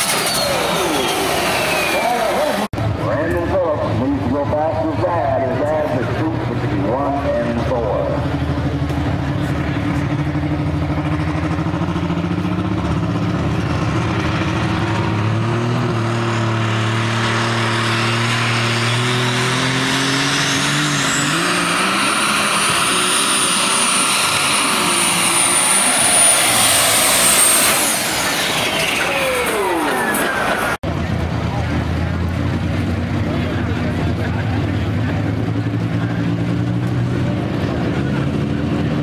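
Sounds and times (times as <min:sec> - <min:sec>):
high turbo whine: 0:00.0 - 0:39.0
tractor diesel engine revving: 0:00.0 - 0:39.0.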